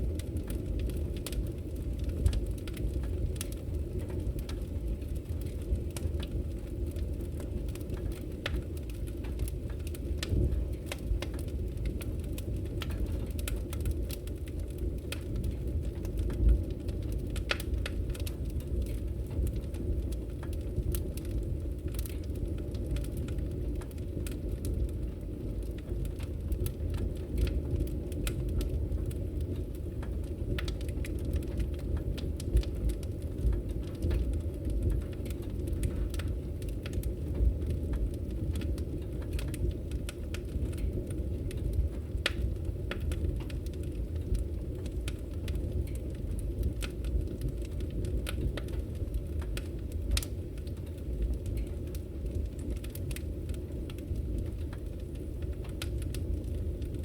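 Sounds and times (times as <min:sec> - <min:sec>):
pops and snaps of burning logs: 0:00.0 - 0:57.0
wood fire crackling: 0:00.0 - 0:57.0.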